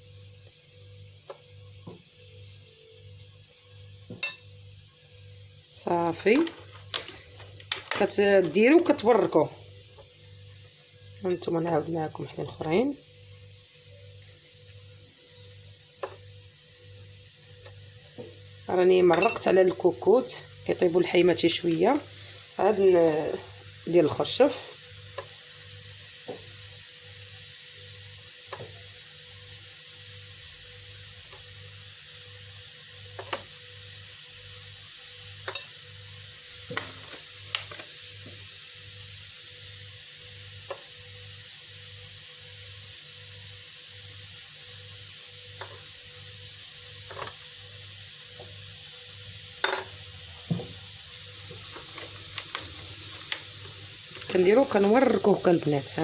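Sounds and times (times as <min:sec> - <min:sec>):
pressure cooker hissing steam: 0:00.0 - 0:56.0.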